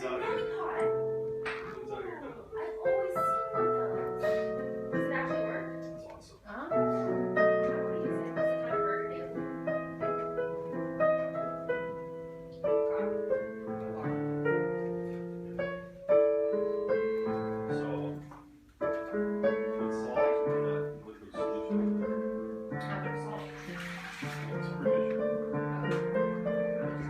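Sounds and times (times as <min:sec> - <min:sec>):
slow piano melody: 0:00.0 - 0:27.0.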